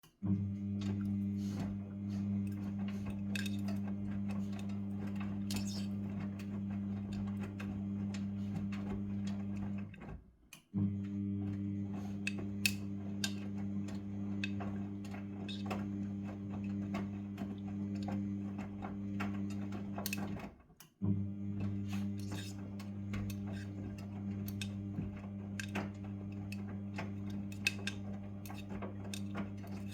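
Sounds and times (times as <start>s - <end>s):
washing machine humming: 0.1s - 29.9s.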